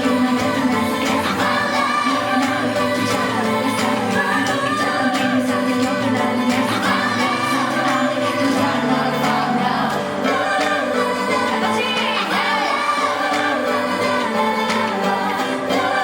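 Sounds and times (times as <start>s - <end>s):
women singing over pop track: 0.0s - 16.0s.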